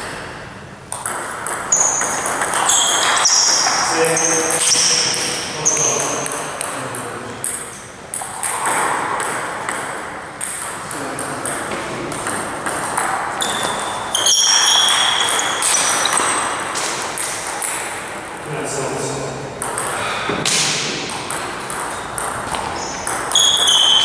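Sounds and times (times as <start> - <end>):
table tennis balls clicking: 0.0 - 18.5, 19.6 - 24.0.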